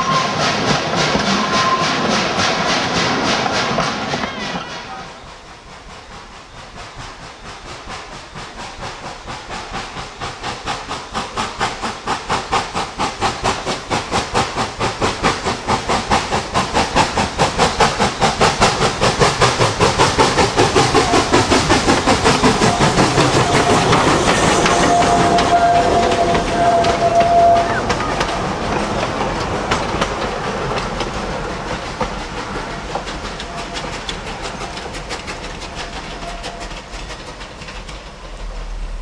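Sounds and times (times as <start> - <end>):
steam locomotive exhaust chuffs: 0.0 - 39.0.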